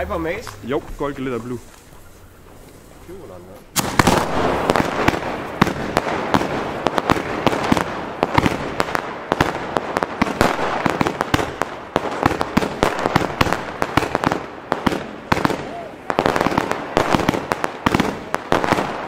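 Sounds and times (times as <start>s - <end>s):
firework comets whooshing upward: 0.0s - 19.0s
firework cracks: 0.0s - 19.0s.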